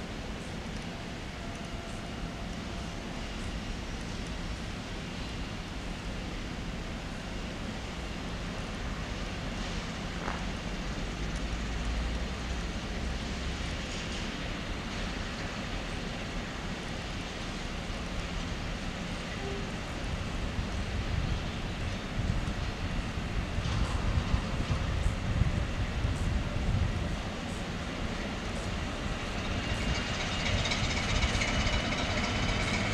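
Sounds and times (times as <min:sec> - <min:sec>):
distant diesel locomotive rumbling: 0:00.0 - 0:32.9.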